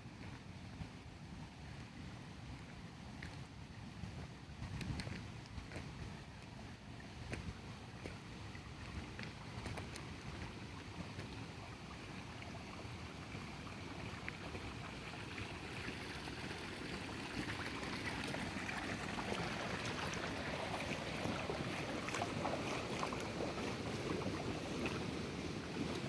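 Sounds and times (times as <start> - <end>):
river water running over rocks: 0.1 - 26.0.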